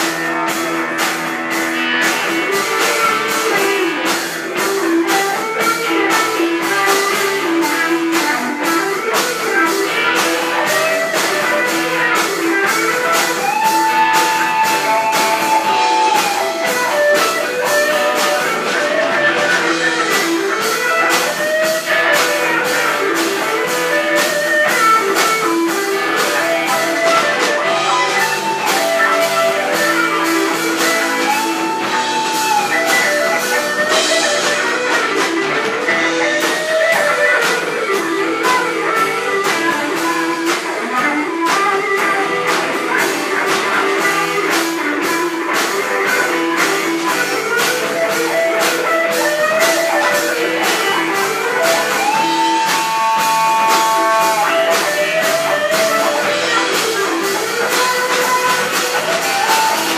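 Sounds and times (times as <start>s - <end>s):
bass: 0.0s - 59.9s
drum beat: 0.0s - 59.9s
electric guitar lead: 0.0s - 59.9s
keyboards: 0.0s - 59.9s.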